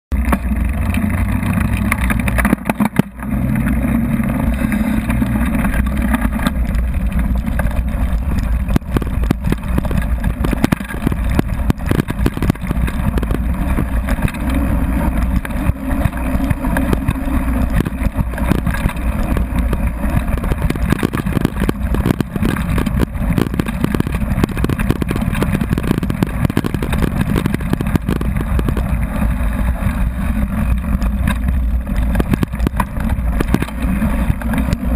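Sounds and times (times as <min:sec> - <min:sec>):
wind rumble on microphone: 0:00.1 - 0:34.9
bike frame rattling: 0:00.2 - 0:34.9.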